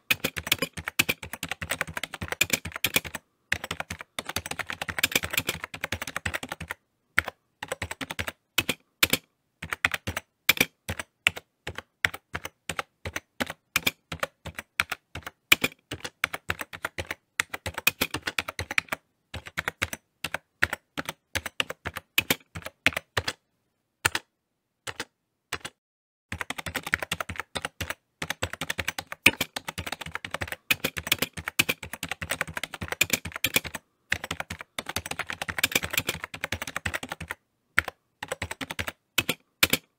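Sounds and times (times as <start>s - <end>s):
typing on a keyboard: 0.0s - 23.4s, 24.0s - 24.3s, 24.9s - 39.9s.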